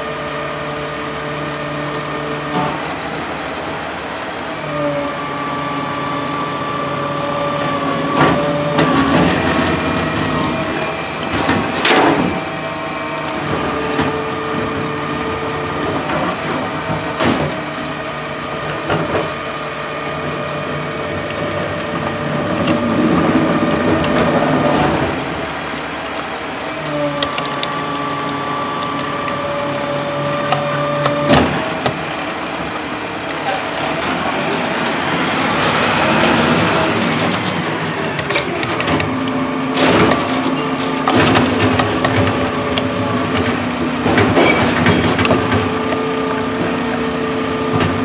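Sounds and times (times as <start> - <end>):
truck engine running: 0.0 - 48.0.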